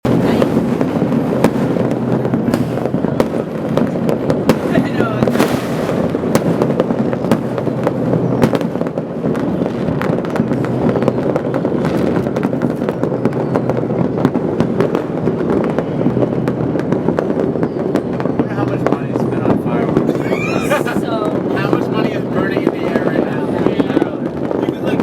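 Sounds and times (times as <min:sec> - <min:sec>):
fireworks banging and cracking: 0:00.0 - 0:25.0.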